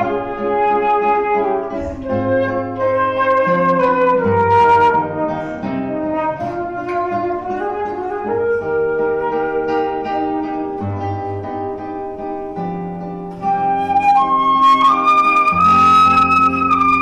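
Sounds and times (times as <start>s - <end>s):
flute melody: 0.0s - 17.0s
plucked guitar: 0.0s - 17.0s.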